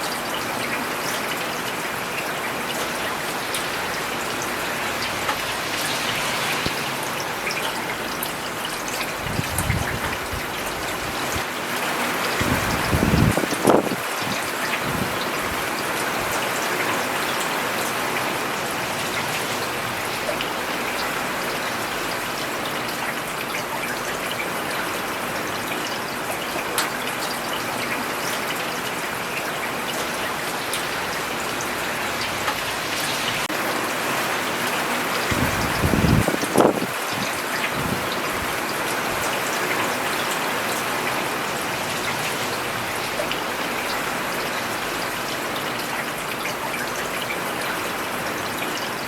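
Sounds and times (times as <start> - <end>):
rain on a road: 0.0 - 49.0.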